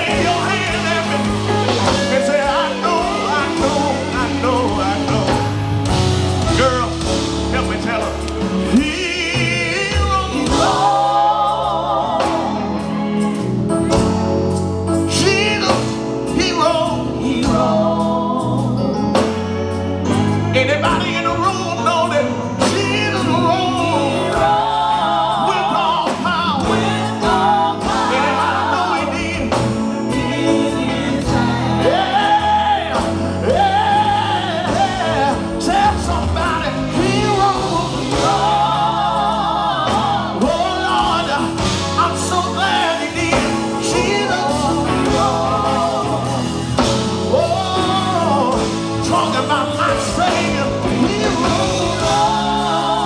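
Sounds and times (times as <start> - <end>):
band playing guitar bass keyboard: 0.0 - 53.0
gospel quartet singing: 0.0 - 53.0.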